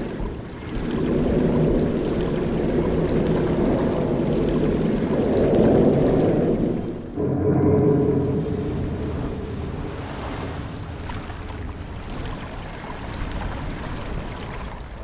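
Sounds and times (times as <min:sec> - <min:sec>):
steady rushing noise: 0:01.1 - 0:13.8.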